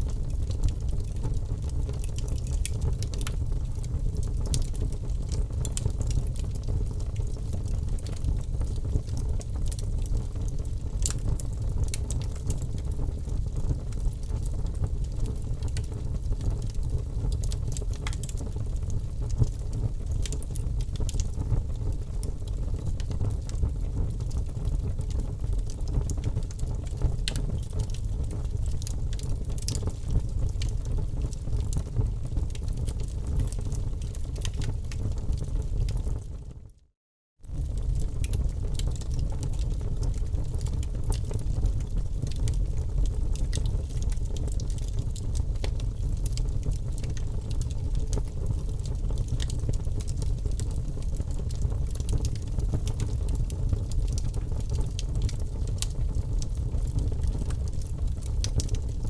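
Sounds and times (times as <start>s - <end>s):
wood fire crackling: 0.1s - 36.3s, 37.4s - 59.0s.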